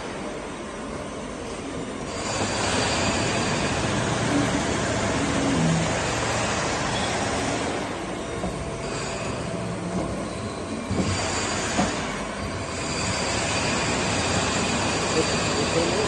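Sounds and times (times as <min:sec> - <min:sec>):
boring machine mechanical noise: 0:00.0 - 0:16.0.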